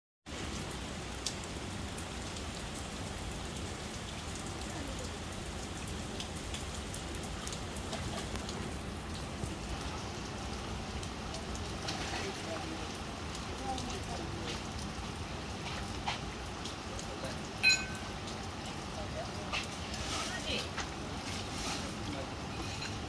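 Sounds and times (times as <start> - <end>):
raindrops ticking on a surface: 0.3 - 23.0
steady rain falling: 0.3 - 23.0.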